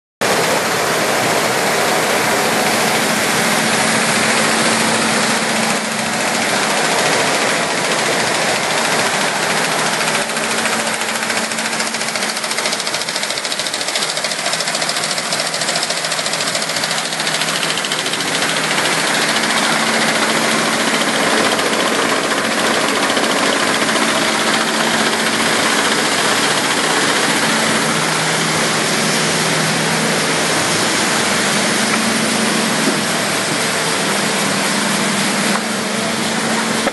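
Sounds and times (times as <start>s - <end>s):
constant machine hum: 0.2s - 36.9s
machine whirring and clattering: 0.2s - 36.9s.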